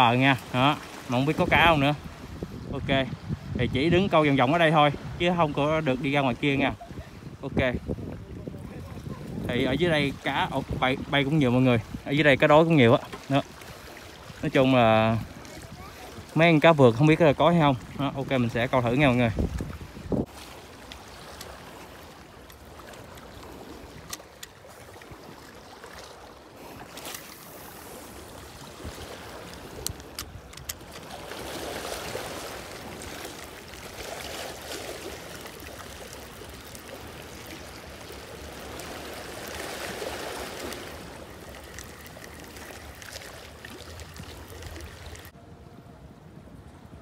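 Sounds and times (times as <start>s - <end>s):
small waves washing against rocks: 4.3s - 45.4s.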